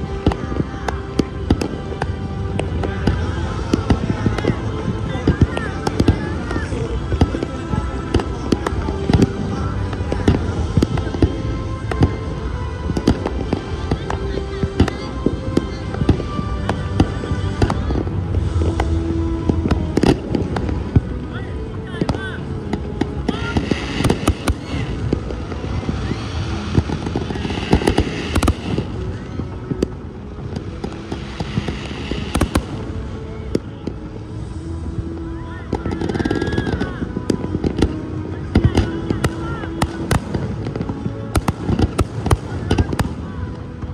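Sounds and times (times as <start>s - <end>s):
continuous rumble: 0.0s - 43.9s.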